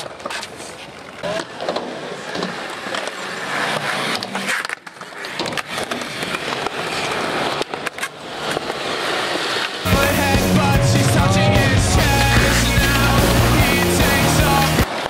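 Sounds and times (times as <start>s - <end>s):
skateboard clacks: 0.0s - 15.0s
skateboard wheels rolling on concrete: 0.0s - 15.0s.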